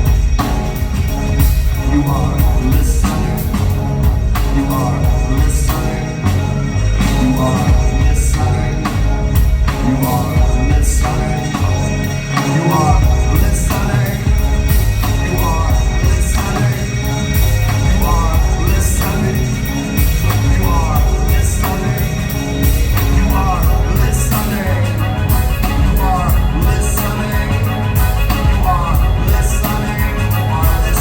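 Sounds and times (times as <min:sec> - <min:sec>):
drum beat: 0:00.0 - 0:06.2, 0:07.1 - 0:31.0
heavy bass line: 0:00.0 - 0:31.0
repeating melodic figures: 0:00.0 - 0:31.0.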